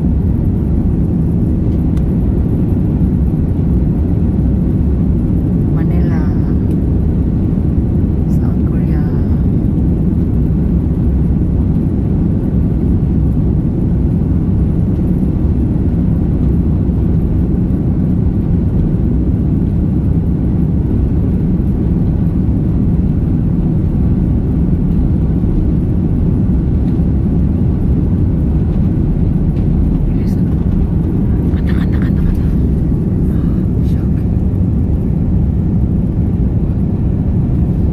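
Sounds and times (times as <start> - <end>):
jet cabin rumble on runway: 0.0 - 37.9.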